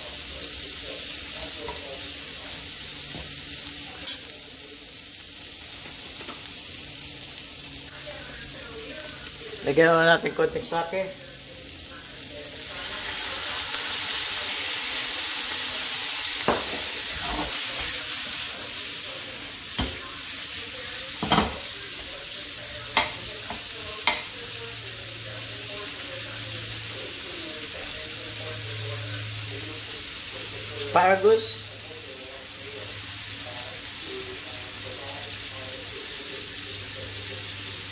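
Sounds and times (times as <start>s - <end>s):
vegetables sizzling in a frying pan: 0.0s - 37.9s.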